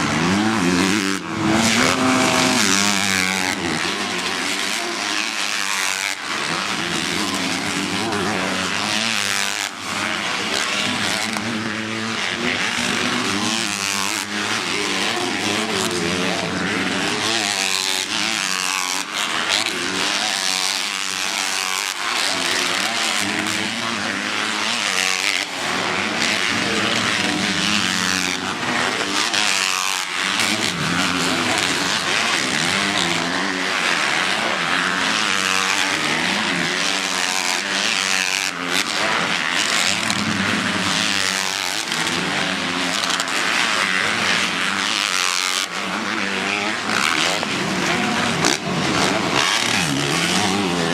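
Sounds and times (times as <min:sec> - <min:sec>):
motocross bikes revving: 0:00.0 - 0:50.9.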